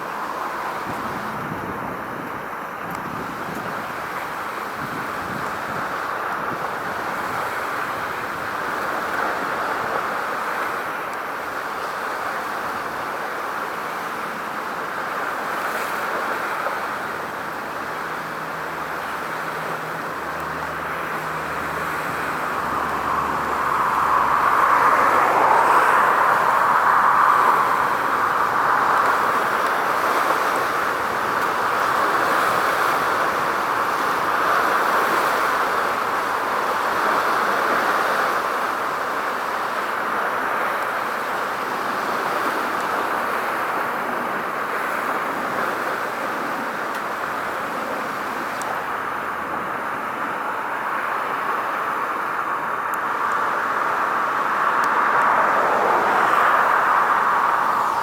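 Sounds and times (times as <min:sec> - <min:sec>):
distant road traffic: 0:00.0 - 0:58.0.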